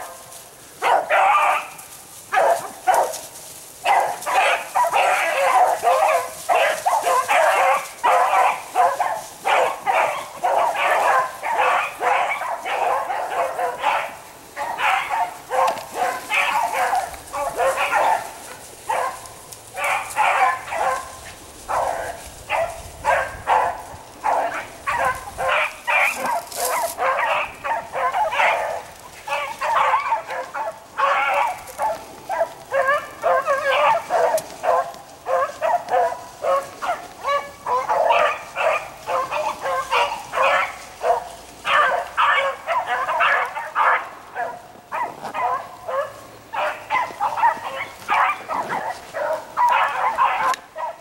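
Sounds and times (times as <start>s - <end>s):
hounds baying: 0.0s - 51.0s.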